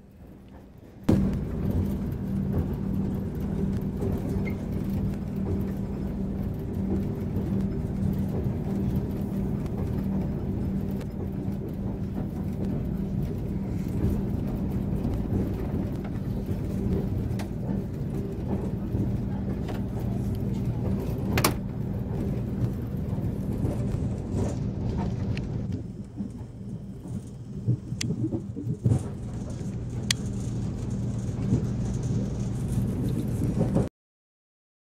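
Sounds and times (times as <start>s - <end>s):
vehicle engine rumble: 0.0s - 33.9s.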